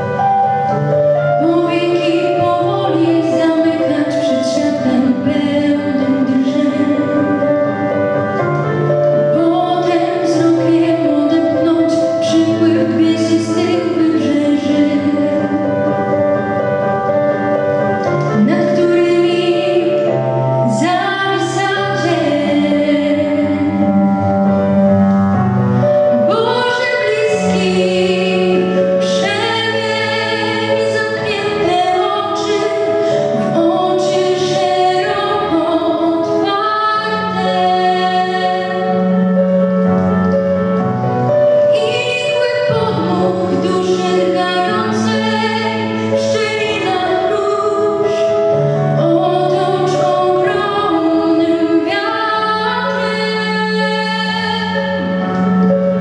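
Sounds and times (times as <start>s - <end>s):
woman singing into a microphone: 1.2s - 7.9s, 9.2s - 16.1s, 18.2s - 24.1s, 26.1s - 39.2s, 41.6s - 55.6s.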